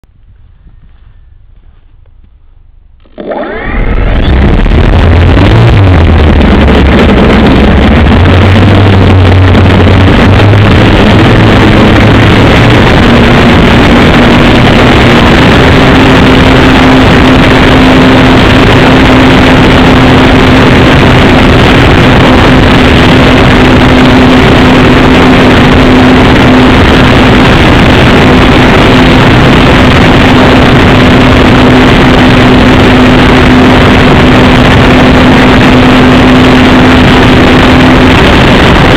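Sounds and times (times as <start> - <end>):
model airplane engine running: 3.0 - 38.9.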